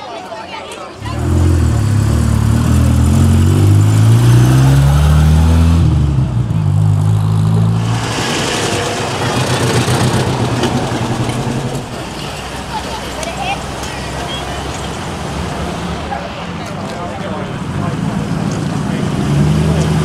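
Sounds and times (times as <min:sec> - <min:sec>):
car engine accelerating hard: 0:01.0 - 0:20.0.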